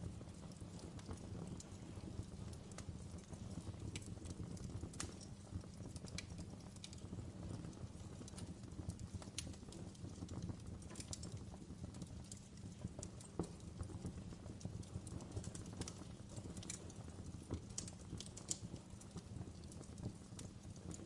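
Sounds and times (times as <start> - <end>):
low rumble of flames: 0.0 - 21.0
wood fire pops and snaps: 0.0 - 21.0.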